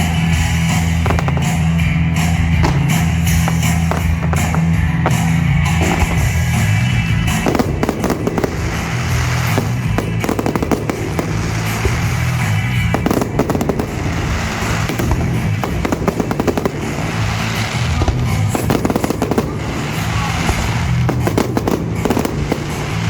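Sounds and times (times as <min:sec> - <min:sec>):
fireworks bangs and crackling: 0:00.0 - 0:23.0
loud rock music: 0:00.0 - 0:23.0.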